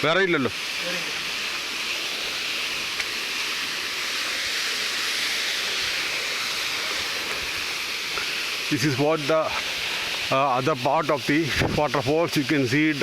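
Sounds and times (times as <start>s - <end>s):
waterfall hissing: 0.0s - 13.0s.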